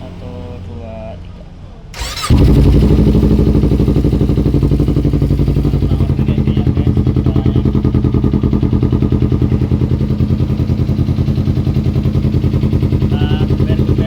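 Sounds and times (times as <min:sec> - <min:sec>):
motorcycle engine idling: 0:02.0 - 0:14.0.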